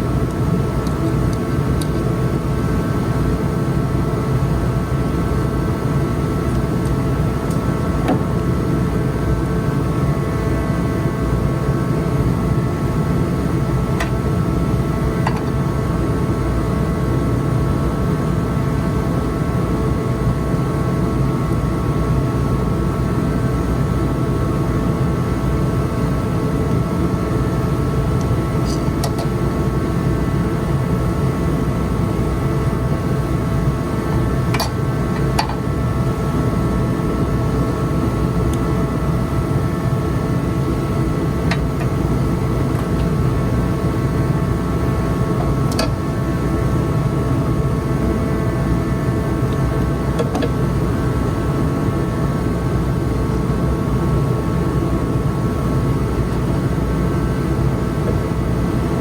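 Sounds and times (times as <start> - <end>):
motor or fan humming: 0.0 - 59.0.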